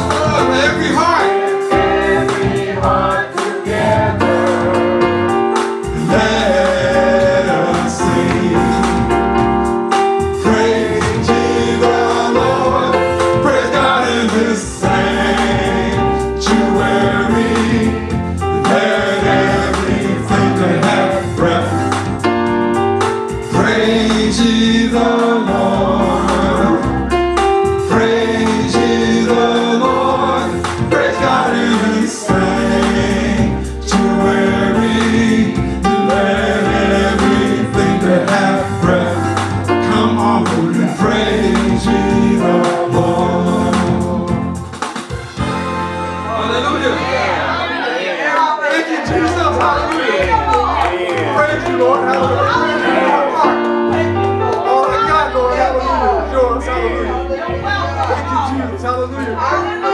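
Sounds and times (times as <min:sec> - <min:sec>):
choir singing: 0:00.0 - 0:22.2, 0:23.4 - 0:59.9
band playing steady beat: 0:00.0 - 0:47.7, 0:49.0 - 0:59.9.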